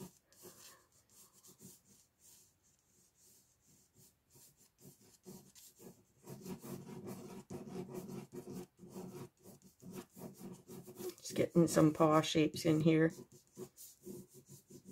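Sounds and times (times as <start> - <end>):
ballpoint pen scratching on paper: 0.0 - 14.9.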